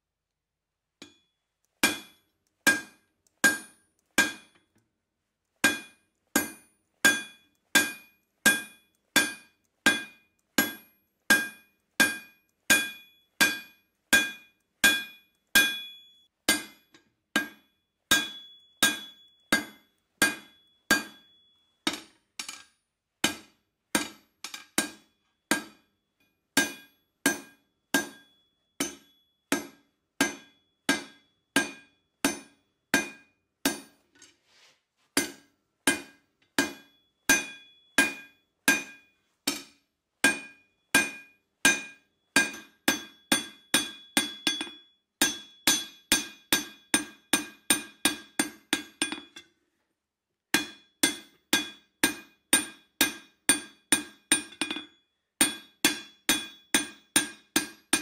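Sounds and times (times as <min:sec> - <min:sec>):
hammer ringing on anvil: 0:01.0 - 0:04.6, 0:05.6 - 0:22.8, 0:24.0 - 0:34.0, 0:35.2 - 0:49.5, 0:50.6 - 0:58.0.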